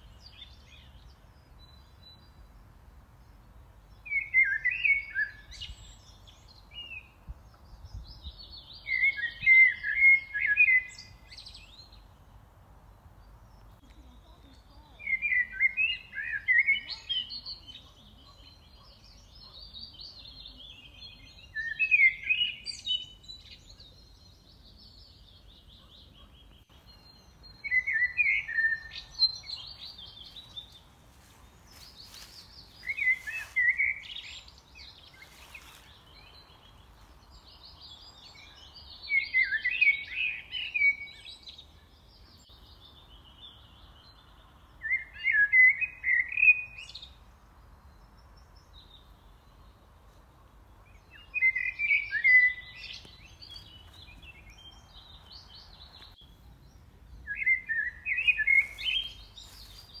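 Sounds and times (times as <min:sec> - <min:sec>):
faint background noise: 0:00.0 - 1:00.0
songbird chattering song: 0:00.0 - 1:00.0.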